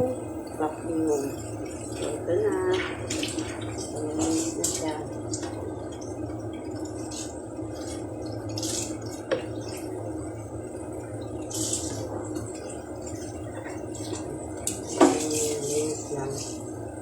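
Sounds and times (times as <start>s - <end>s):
steady low hum: 0.0s - 17.0s
water splashing and dripping: 0.4s - 17.0s.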